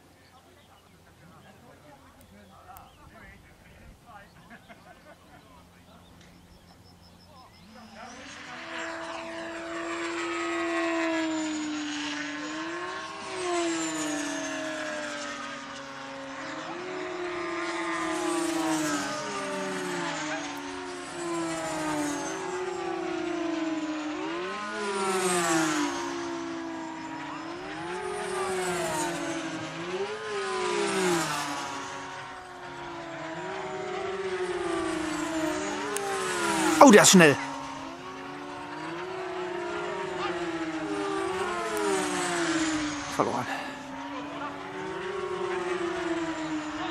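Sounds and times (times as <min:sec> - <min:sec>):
model plane motors whining: 0:04.5 - 0:36.8, 0:37.4 - 0:46.9.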